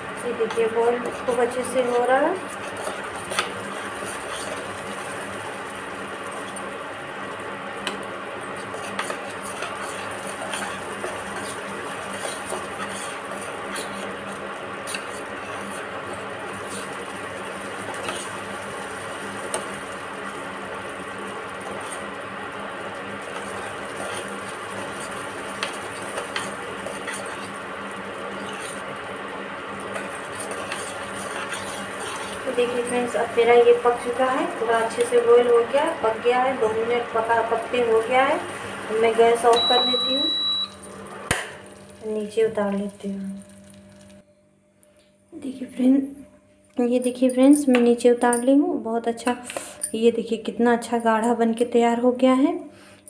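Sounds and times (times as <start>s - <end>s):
mixture boiling in a pan: 0.0s - 44.2s.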